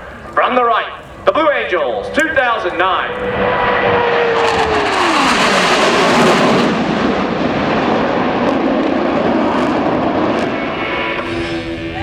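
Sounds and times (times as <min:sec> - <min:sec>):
jets roaring past: 0:00.1 - 0:12.0.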